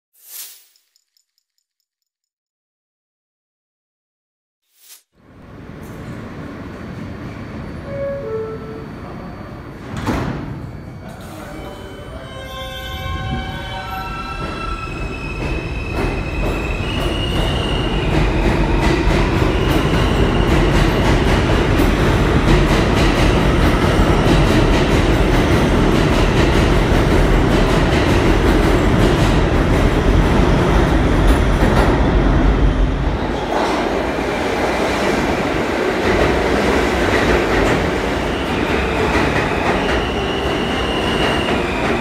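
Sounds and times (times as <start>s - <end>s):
subway train motors whining: 5.2s - 42.0s.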